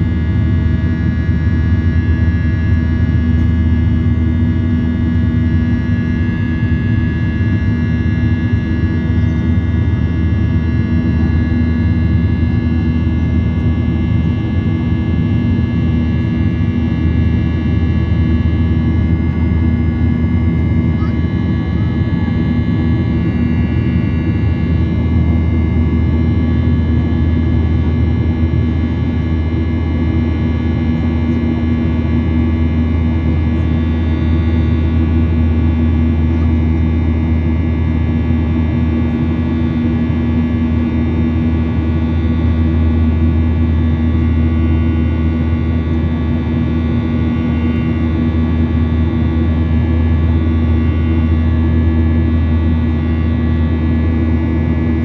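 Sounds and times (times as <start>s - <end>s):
airliner engines droning in cabin: 0.0s - 55.0s.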